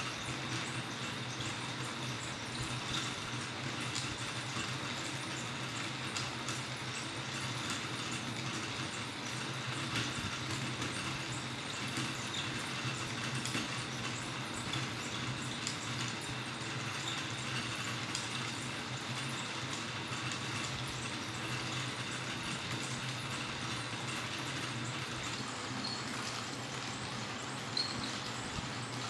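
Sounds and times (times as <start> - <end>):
mechanism humming and whirring: 0.0 - 29.0.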